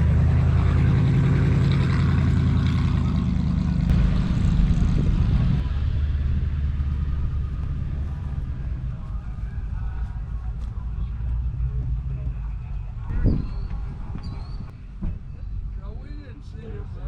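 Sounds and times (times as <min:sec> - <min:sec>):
car engine running: 0:00.0 - 0:14.7.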